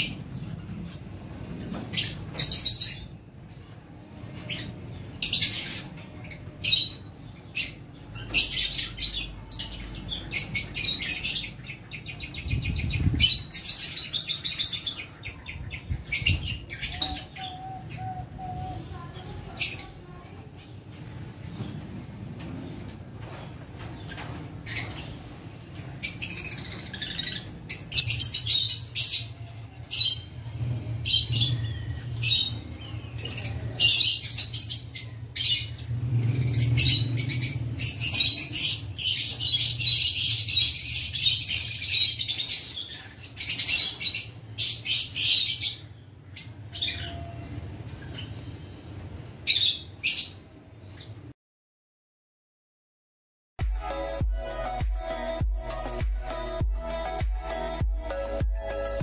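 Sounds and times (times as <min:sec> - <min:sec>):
small birds chirping and calling: 0:00.0 - 0:51.3, 0:53.8 - 0:59.0.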